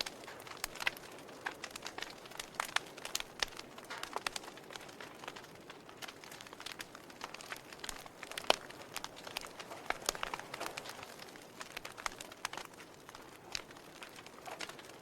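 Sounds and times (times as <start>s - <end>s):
fire crackling and popping: 0.0s - 15.0s
soft steady hiss: 0.0s - 15.0s.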